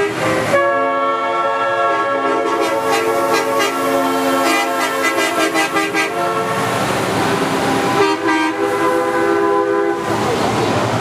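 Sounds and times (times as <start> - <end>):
truck air horns blasting: 0.0 - 10.4.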